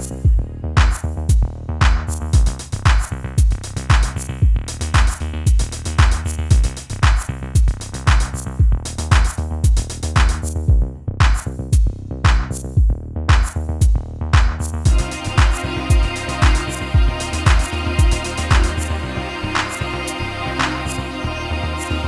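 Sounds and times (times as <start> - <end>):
electronic music with drum-machine beat: 0.0 - 22.0.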